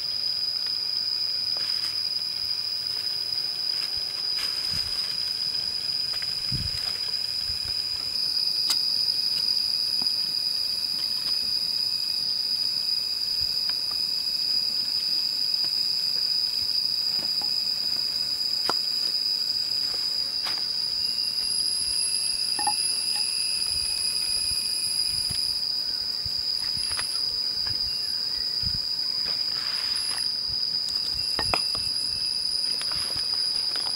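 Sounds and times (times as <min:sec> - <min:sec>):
higher insect drone: 0:00.0 - 0:33.9
insects droning: 0:00.0 - 0:33.9.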